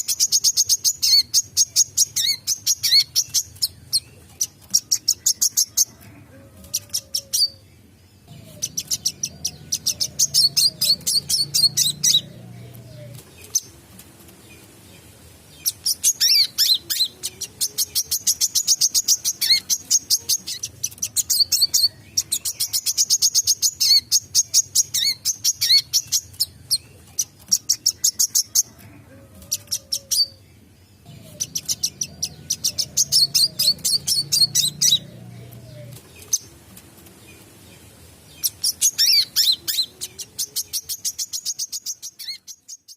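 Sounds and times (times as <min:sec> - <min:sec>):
sunbird chirping: 0:00.0 - 0:06.0, 0:06.8 - 0:28.8, 0:29.6 - 0:42.9
faint low hum: 0:00.2 - 0:38.6.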